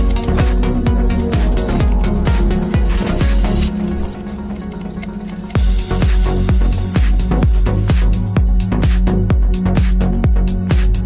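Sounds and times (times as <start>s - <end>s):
steady kick drum: 0.0s - 3.7s, 5.6s - 11.0s
electronic dance music: 0.0s - 11.0s.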